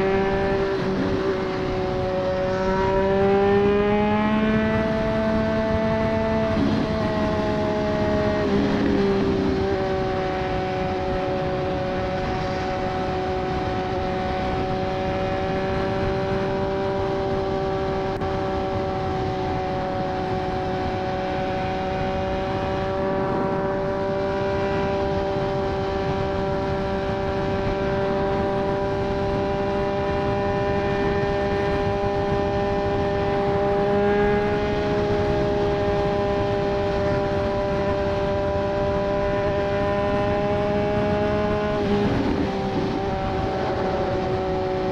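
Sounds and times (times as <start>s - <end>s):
motorcycle engine cruising: 0.0s - 44.9s
wind noise: 0.0s - 44.9s.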